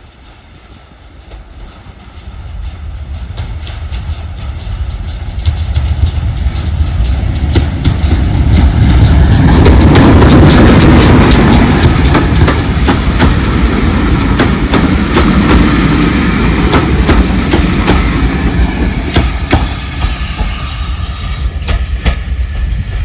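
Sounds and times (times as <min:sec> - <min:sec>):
steam train rumble: 0:00.0 - 0:23.0.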